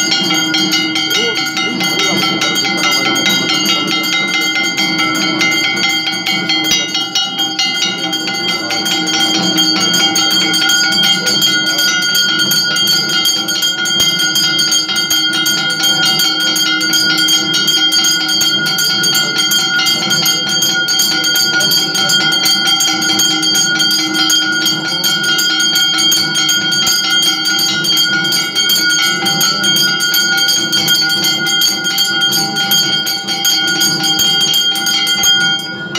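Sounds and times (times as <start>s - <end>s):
bells rung rapidly: 0.0s - 35.9s.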